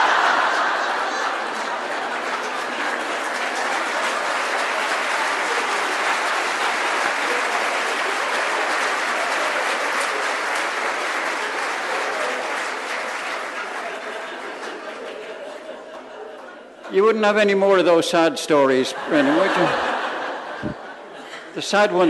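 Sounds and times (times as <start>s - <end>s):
crowd applauding: 0.0s - 17.5s, 18.6s - 22.0s.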